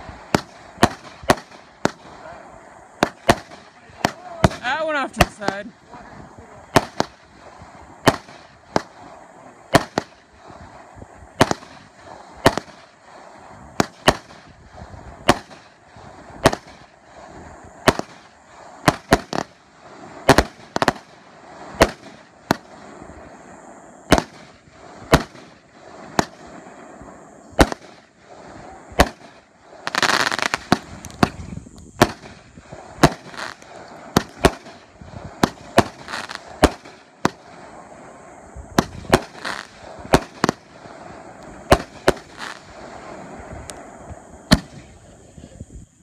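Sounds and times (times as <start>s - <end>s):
firework bangs: 0.0s - 45.8s.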